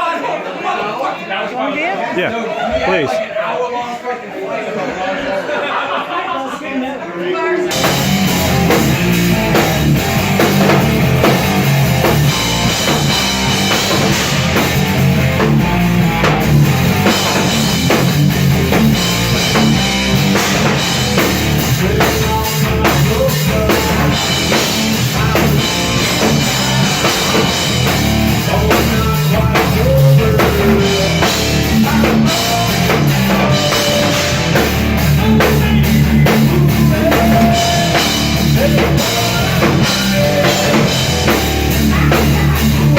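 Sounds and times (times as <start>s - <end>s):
bass guitar: 7.7s - 42.9s
drum kit: 7.7s - 42.9s
electric guitar: 7.7s - 42.9s.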